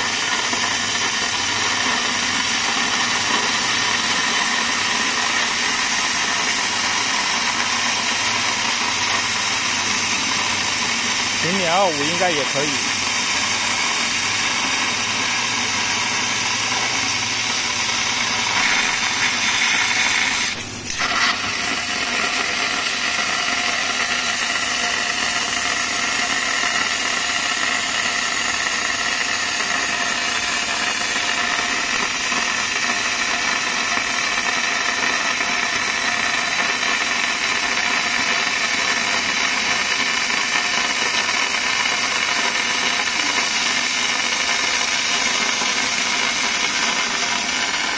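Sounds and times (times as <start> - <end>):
laser cutter gas jet hissing: 0.0 - 47.9.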